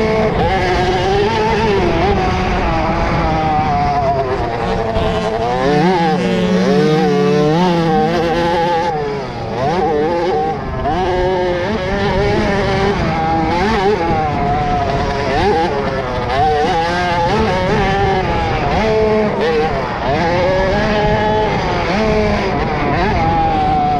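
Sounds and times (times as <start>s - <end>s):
motocross bike engines revving: 0.0s - 23.9s.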